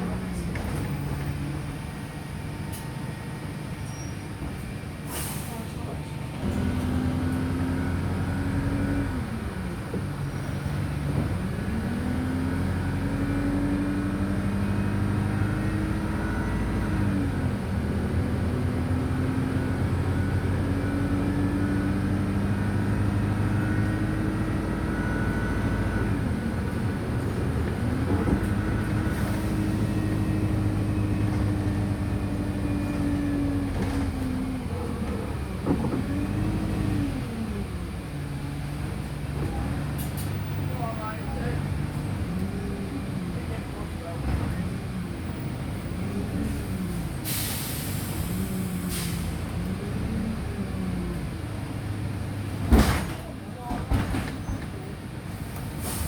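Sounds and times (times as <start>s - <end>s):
bus engine climbing and dropping: 0.0s - 56.0s
low road rumble: 0.0s - 56.0s.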